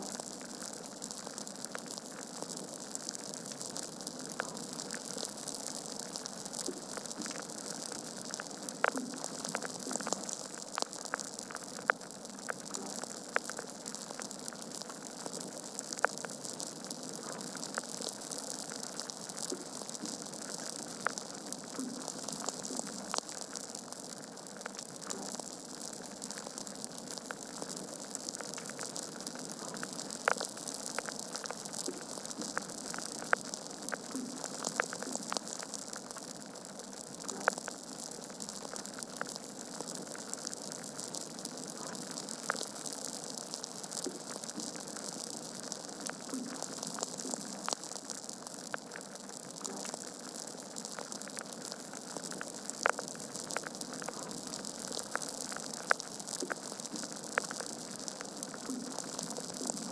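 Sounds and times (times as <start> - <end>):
logs crackling and popping: 0.0 - 59.9
soft fire hiss: 0.0 - 59.9.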